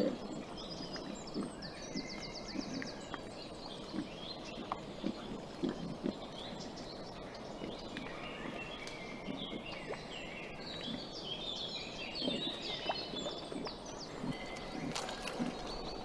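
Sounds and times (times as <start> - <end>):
birds chirping: 0.0 - 16.0
wild boar chewing: 0.0 - 16.0.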